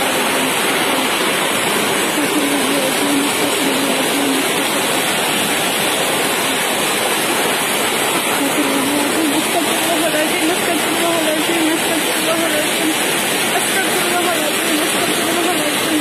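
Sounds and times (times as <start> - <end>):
heavy rain and hail: 0.0 - 16.0.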